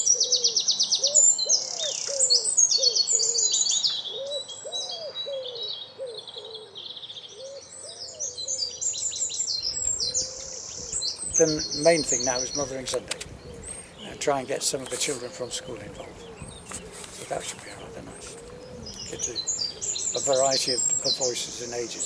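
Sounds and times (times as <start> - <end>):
songbirds singing: 0.0 - 22.0.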